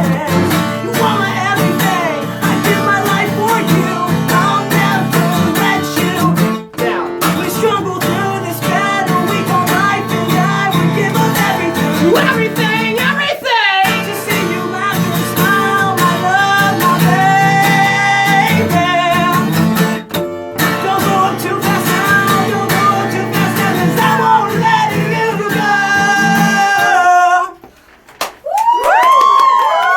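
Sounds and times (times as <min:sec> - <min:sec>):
wordless singing: 0:00.0 - 0:19.6, 0:20.6 - 0:27.7
acoustic guitar strumming: 0:00.0 - 0:27.7.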